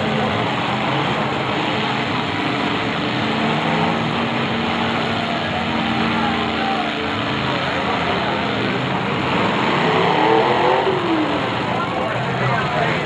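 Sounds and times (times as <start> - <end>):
car engines revving together: 0.0 - 13.0
steady engine drone: 0.0 - 13.0.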